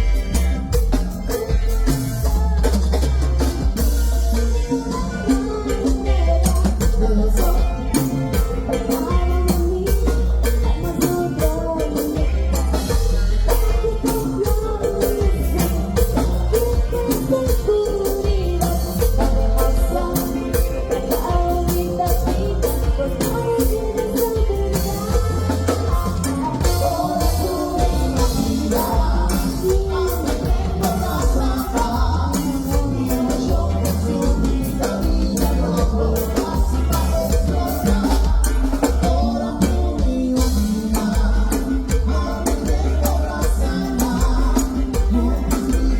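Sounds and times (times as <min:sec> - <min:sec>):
band music with singing: 0:00.0 - 0:45.9.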